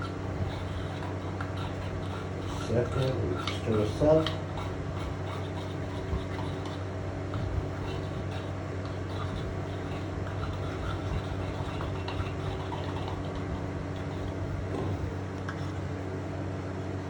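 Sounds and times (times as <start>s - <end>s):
faint clicks and scrapes: 0.0s - 15.8s
low machine hum: 0.0s - 17.0s.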